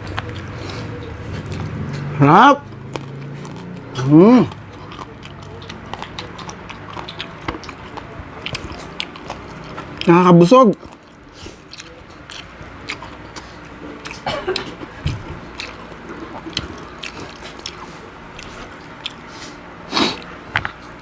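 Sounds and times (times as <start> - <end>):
chewing and biting: 0.0 - 2.1, 2.7 - 21.0.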